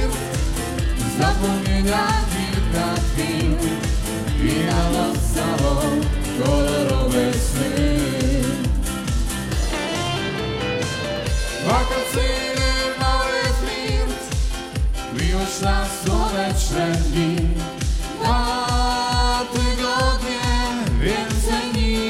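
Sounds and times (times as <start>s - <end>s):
live dance-pop band music: 0.0s - 22.0s.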